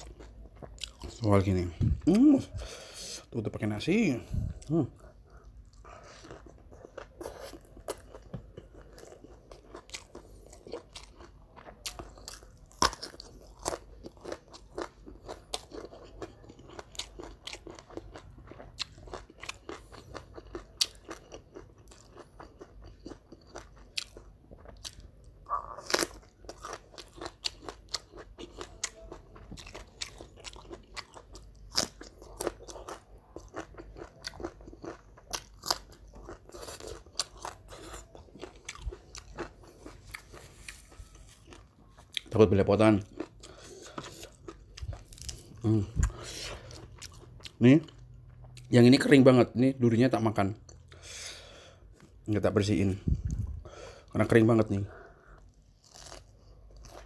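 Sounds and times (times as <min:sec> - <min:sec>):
crunching and chewing fried food: 0:00.0 - 0:57.0.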